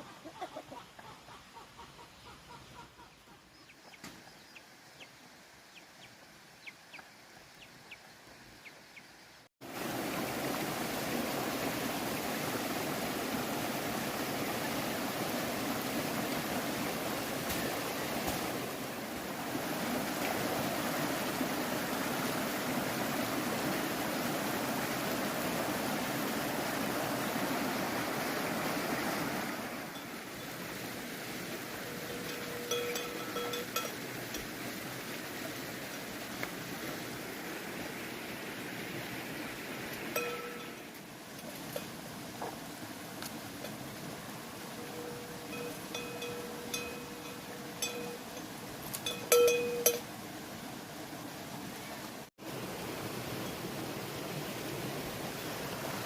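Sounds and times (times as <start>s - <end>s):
rushing flowing water: 9.6s - 56.0s.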